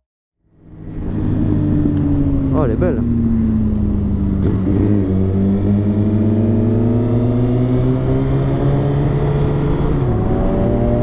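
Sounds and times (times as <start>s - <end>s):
motorcycle engine accelerating: 0.5s - 11.0s
wind rushing over microphone: 0.6s - 11.0s.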